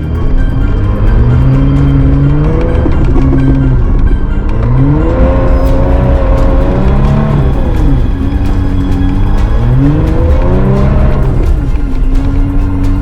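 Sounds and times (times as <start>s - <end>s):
background music: 0.0s - 13.0s
vehicle engine revving: 0.0s - 13.0s.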